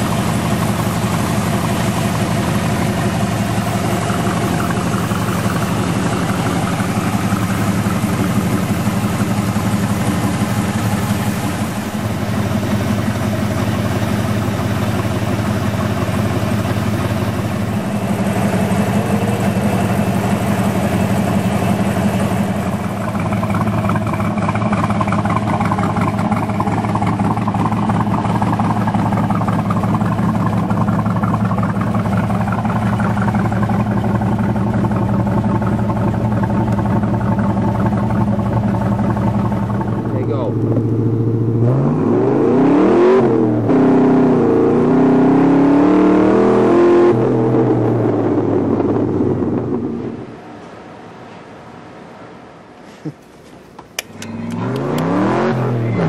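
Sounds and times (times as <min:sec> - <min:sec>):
car engine idling: 0:00.0 - 0:51.7, 0:52.6 - 0:56.0.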